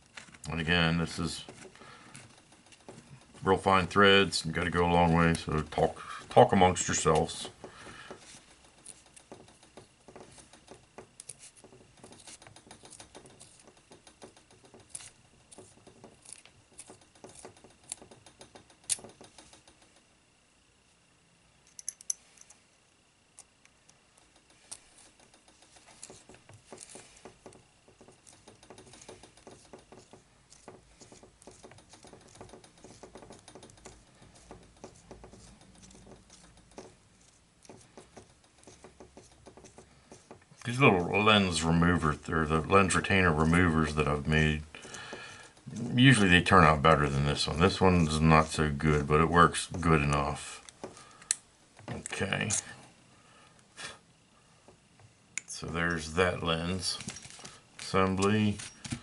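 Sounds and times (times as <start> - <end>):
small metallic clicks and scrapes: 0.0 - 20.4, 21.6 - 22.6, 23.2 - 52.8.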